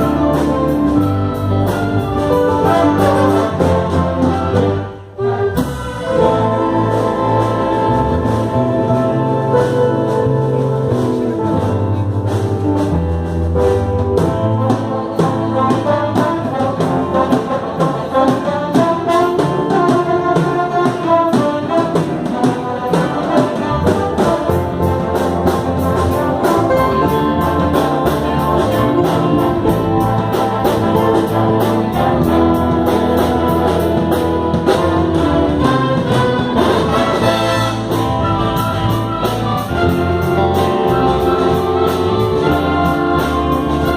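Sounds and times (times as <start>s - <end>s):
bass line: 0.0s - 20.8s, 22.0s - 43.9s
steady drum beat: 0.0s - 43.9s
trumpets and trombones melody: 0.0s - 43.9s.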